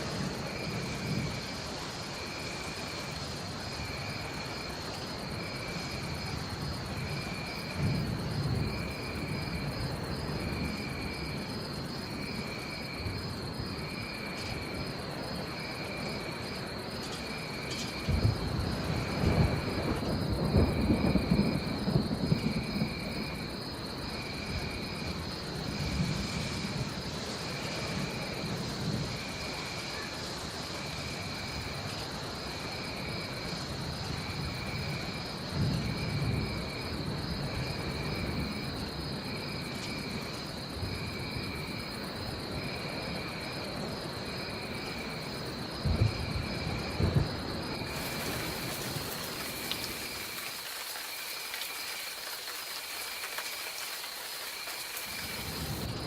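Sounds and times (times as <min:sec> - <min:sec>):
low rolling thunder: 0:00.0 - 0:51.3, 0:55.0 - 0:56.0
steady rain: 0:00.0 - 0:56.0.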